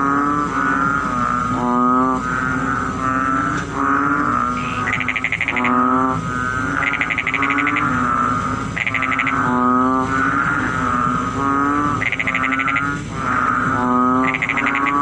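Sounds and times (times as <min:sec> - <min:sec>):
frogs drawn-out low calls: 0:00.0 - 0:15.0
frogs rapid pulsing trills: 0:00.0 - 0:15.0.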